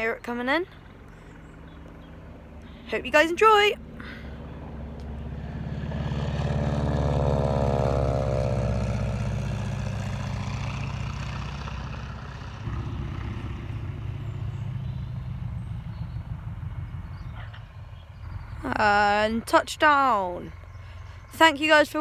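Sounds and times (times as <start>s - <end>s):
aircraft engine passing: 0.0s - 22.0s.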